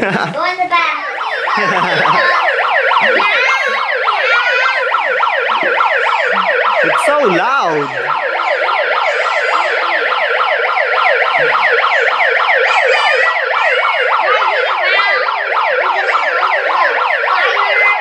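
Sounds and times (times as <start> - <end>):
electronic toy siren yelping: 1.0 - 18.0.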